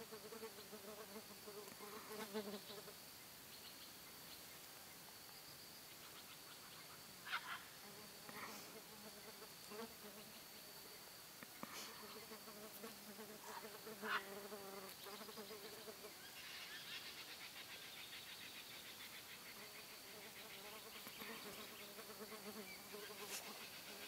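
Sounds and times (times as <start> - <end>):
wavering insect buzz: 0.0 - 4.5, 5.9 - 24.0.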